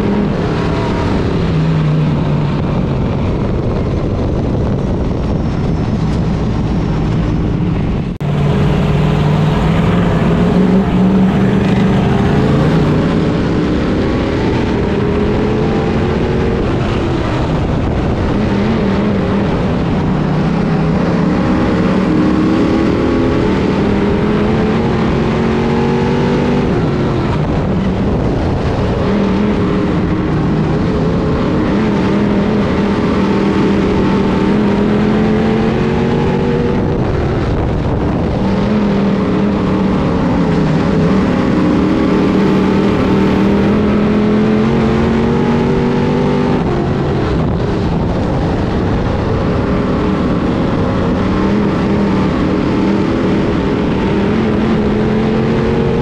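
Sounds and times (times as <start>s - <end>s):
race car engine revving: 0.0s - 56.0s
rushing noise: 0.0s - 56.0s.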